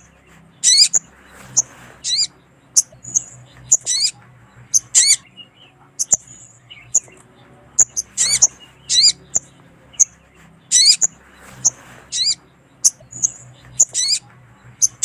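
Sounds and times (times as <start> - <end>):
bird longer calls: 0.0 - 7.2, 7.8 - 15.0
bird high chips: 0.6 - 5.3, 6.0 - 7.2, 7.8 - 14.2.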